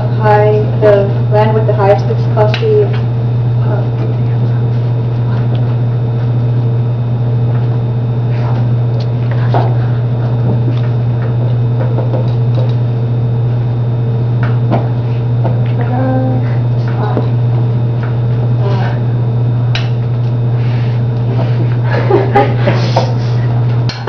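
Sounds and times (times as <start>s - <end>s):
loud low hum: 0.0s - 24.0s.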